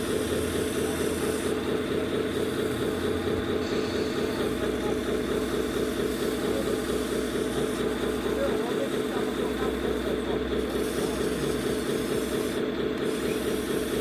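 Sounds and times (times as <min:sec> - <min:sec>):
toy truck engine drone: 0:00.0 - 0:14.0.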